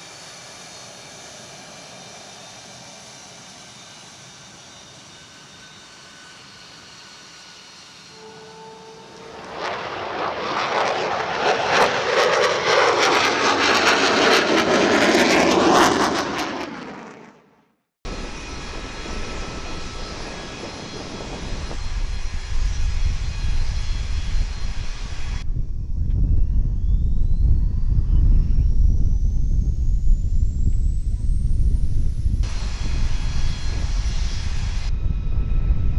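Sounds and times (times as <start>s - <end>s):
jet fighter flyby: 0.0s - 25.6s, 27.1s - 35.9s
jet engine low rumble: 0.0s - 35.9s.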